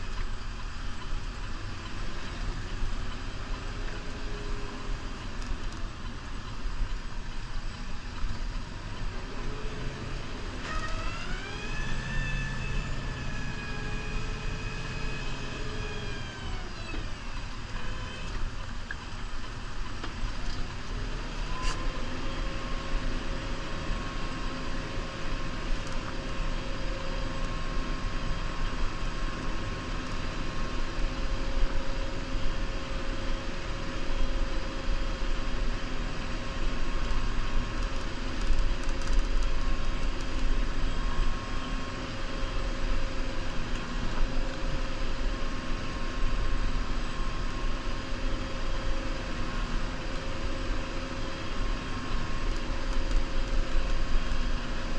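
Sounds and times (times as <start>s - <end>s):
steady whine: 0.0s - 54.9s
tractor diesel engine running: 0.0s - 54.9s.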